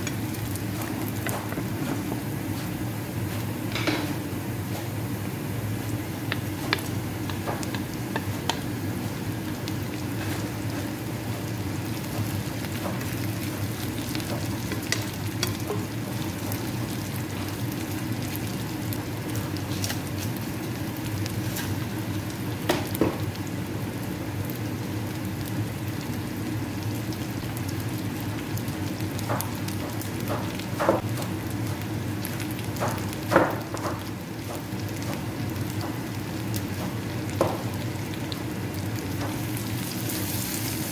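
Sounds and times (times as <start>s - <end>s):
vegetables sizzling in oil: 0.0s - 40.9s.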